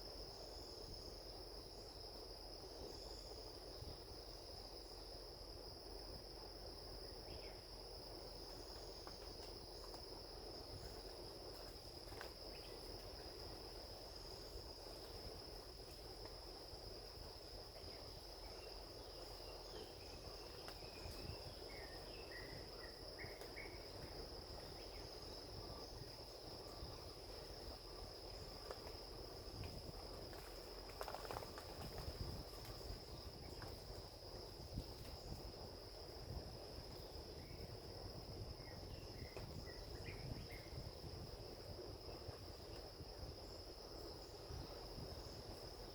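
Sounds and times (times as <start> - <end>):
crickets trilling: 0.0 - 45.9.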